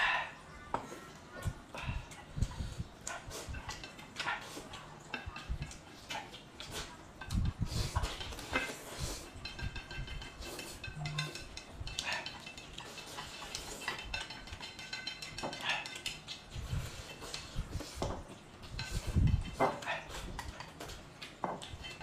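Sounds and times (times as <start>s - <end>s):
dishes and cutlery clinking: 0.7s - 22.0s
person chewing: 1.7s - 22.0s.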